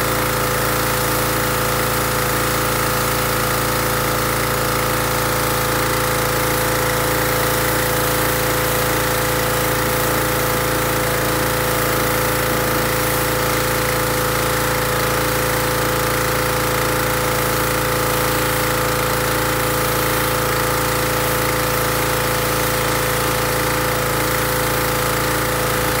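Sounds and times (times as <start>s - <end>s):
pressure washer running: 0.0s - 26.0s.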